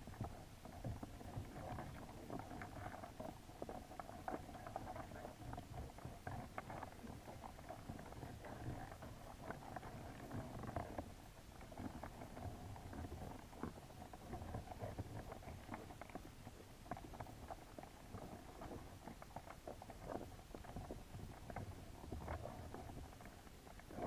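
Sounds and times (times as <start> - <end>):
underwater clicks and ticks: 0.0 - 24.0
underwater water rumble: 0.0 - 24.0.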